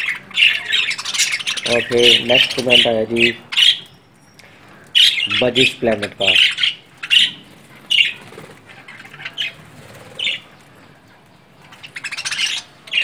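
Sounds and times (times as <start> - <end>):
budgerigars squawking: 0.0 - 3.9, 4.8 - 11.0, 11.6 - 13.0
rapid bird chattering: 0.0 - 13.0.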